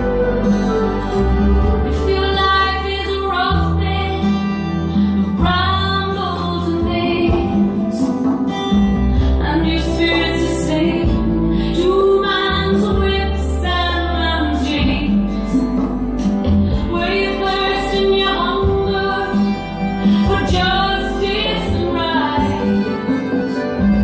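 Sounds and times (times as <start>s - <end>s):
acoustic guitar: 0.0s - 24.0s
bass line: 0.0s - 24.0s
woman singing: 1.6s - 8.6s, 9.2s - 15.6s, 16.3s - 23.6s.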